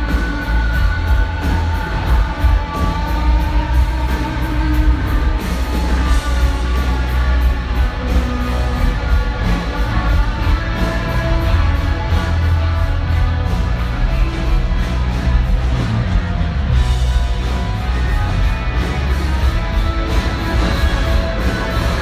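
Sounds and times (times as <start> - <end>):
drums with steady beat: 0.0 - 22.0
electric guitar: 0.0 - 22.0
heavy bass: 0.0 - 22.0.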